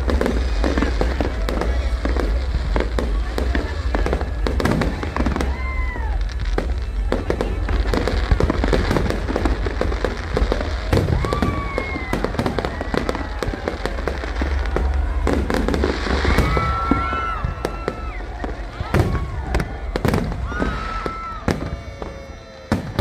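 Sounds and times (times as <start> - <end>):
fireworks crackling and bursting: 0.0 - 23.0
fireworks whistling: 0.0 - 23.0.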